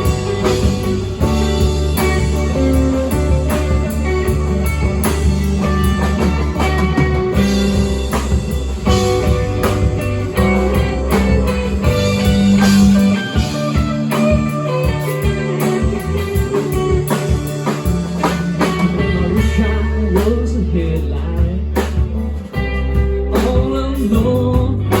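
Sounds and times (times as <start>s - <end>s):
band playing blues-rock: 0.0s - 25.0s
electric guitar: 0.0s - 25.0s.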